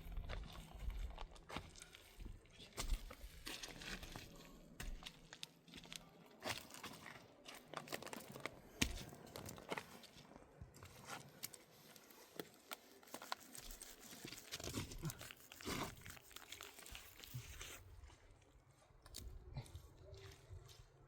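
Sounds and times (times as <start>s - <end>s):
faint rustling and crinkling: 0.0s - 21.0s.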